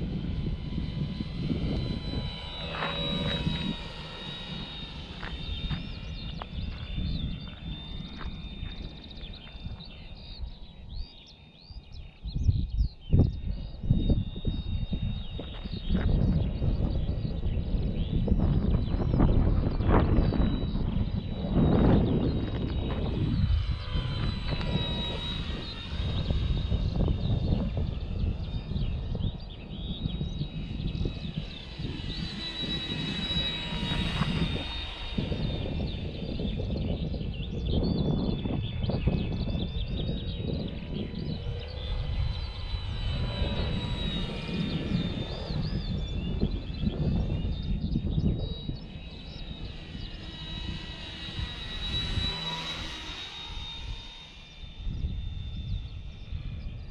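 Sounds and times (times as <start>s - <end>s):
model plane motor whining: 0.0s - 56.9s
steady thin high tone: 0.0s - 56.9s
wind on microphone: 0.0s - 56.9s
small birds chirping: 0.3s - 56.9s.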